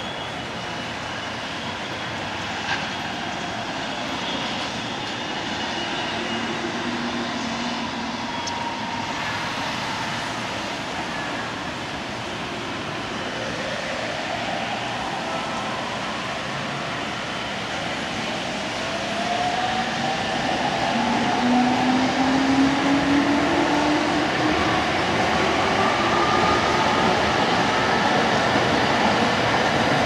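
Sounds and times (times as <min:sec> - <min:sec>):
city traffic: 0:00.0 - 0:30.0
electric trains running on tracks: 0:00.0 - 0:30.0.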